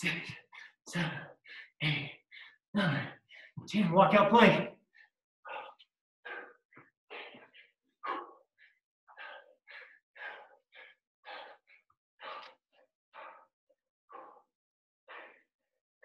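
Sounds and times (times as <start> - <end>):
man breathing heavily: 0.0 - 3.7, 4.8 - 15.8.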